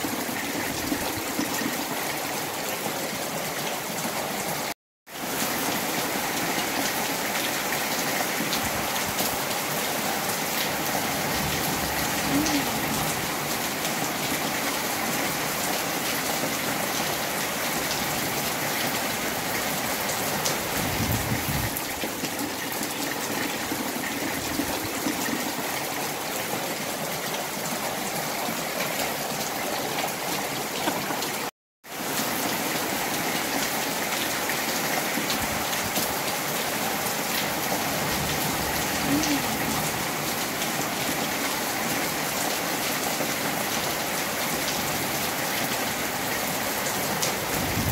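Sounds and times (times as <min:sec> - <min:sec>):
steady rain pouring: 0:00.0 - 0:47.9.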